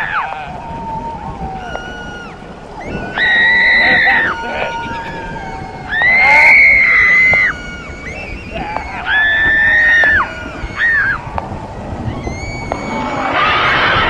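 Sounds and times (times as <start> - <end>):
high-pitched screams with echo: 0.0 - 14.0.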